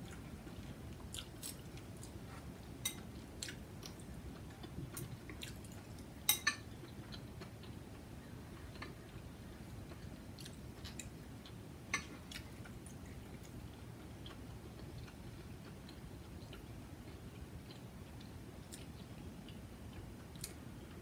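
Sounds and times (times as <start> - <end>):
faint low hum: 0.0 - 21.0
soft chewing: 0.0 - 21.0.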